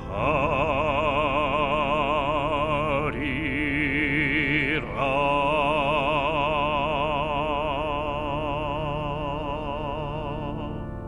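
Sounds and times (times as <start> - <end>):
man singing long note: 0.0 - 10.8
sustained accompaniment: 0.0 - 11.0.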